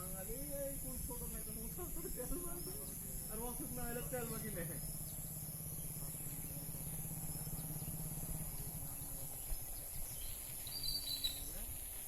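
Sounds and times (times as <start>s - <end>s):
constant high-pitched whine: 0.0s - 12.0s.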